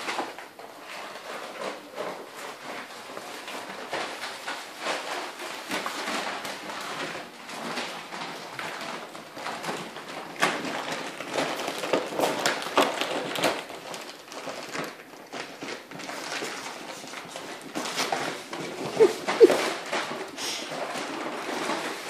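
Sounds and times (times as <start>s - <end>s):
puppies crinkling plastic sack: 0.0s - 22.0s.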